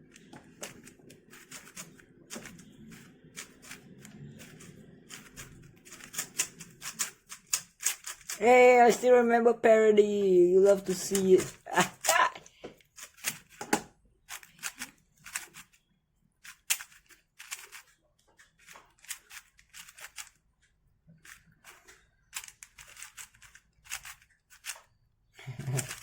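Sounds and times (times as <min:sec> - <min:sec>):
plastic puzzle cube clicking: 0:00.0 - 0:09.0, 0:10.9 - 0:15.8, 0:16.4 - 0:20.4, 0:21.2 - 0:24.9, 0:25.7 - 0:26.0.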